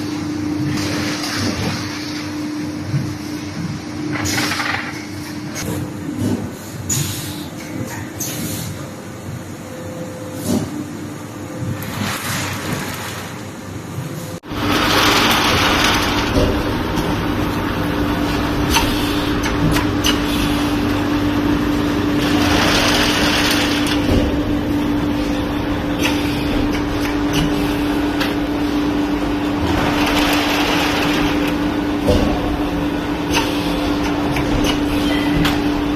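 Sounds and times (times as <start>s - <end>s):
factory machinery hum: 0.0s - 35.9s.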